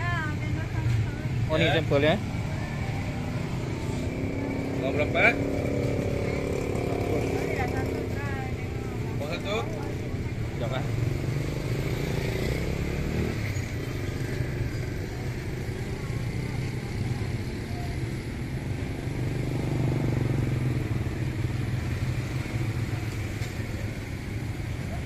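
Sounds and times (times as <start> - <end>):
outdoor street noise: 0.0 - 25.0.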